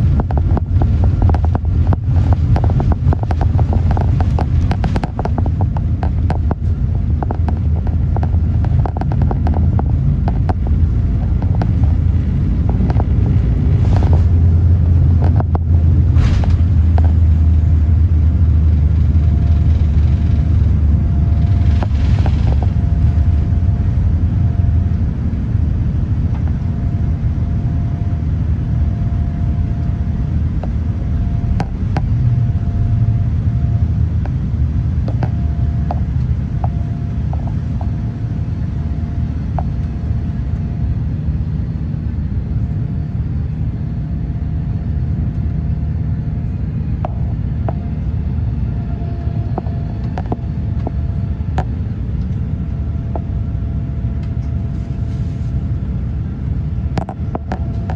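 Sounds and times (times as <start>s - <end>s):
jet engines rumbling in cabin: 0.0s - 57.9s
mid-pitched hum: 0.0s - 57.9s.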